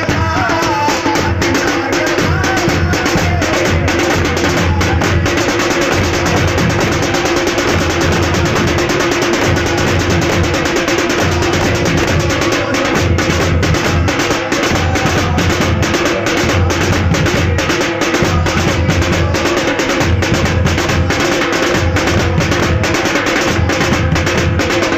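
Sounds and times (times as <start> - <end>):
frame drums beaten in fast rhythm: 0.0 - 24.9.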